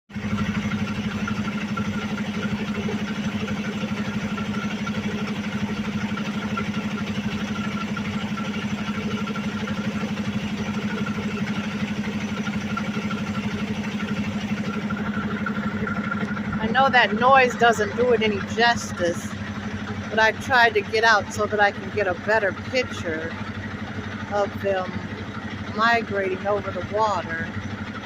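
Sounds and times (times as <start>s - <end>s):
truck engine idling: 0.1s - 28.0s.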